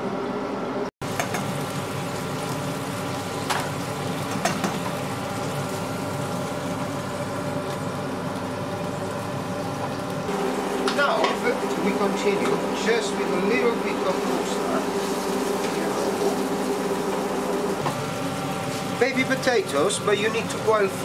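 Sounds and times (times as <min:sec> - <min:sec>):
steady hum: 0:00.0 - 0:21.0
fish sizzling in a frying pan: 0:01.0 - 0:19.7.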